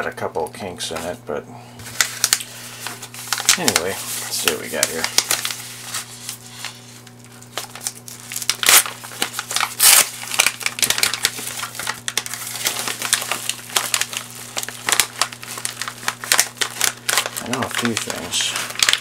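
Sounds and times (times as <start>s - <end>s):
padded envelope crinkling: 1.8s - 19.0s.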